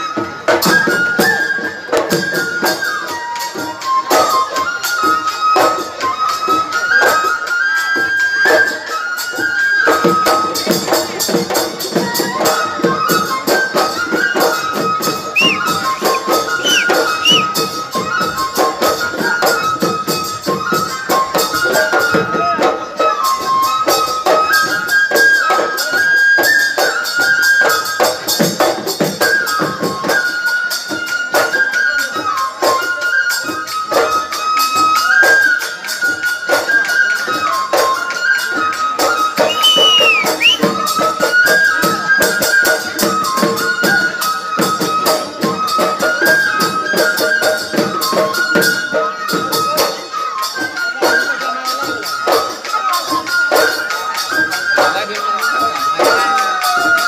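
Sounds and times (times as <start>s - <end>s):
flute melody: 0.0s - 57.0s
jingling percussion: 0.0s - 57.0s.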